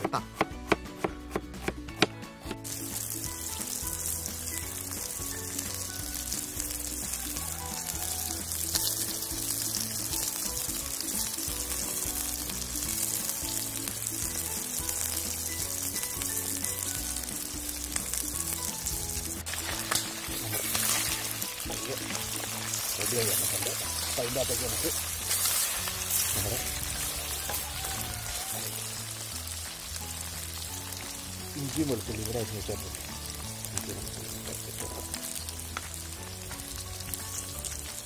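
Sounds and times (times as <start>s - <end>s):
chicken sizzling in a pot: 2.5s - 38.0s.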